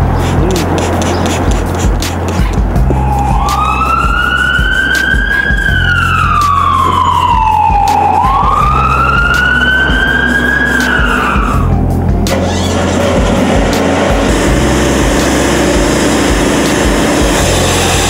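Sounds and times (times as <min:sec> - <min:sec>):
background music with bass line: 0:00.0 - 0:18.0
siren wail: 0:02.9 - 0:18.0.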